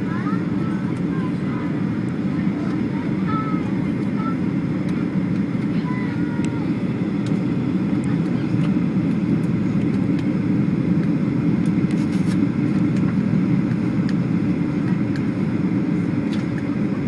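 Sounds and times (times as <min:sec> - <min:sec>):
aircraft cabin engine roar: 0:00.0 - 0:17.0.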